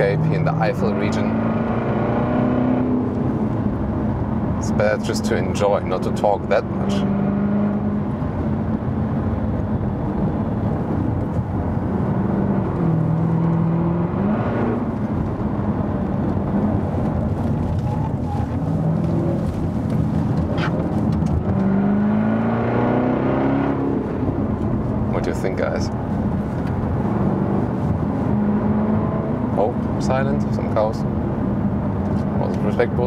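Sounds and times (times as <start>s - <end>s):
car engine revving: 0.0s - 32.9s
road noise: 0.0s - 33.0s.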